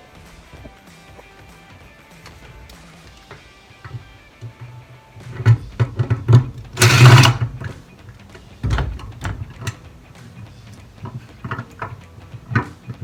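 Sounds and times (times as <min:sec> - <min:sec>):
clicks and plastic rattles: 0:02.2 - 0:13.0.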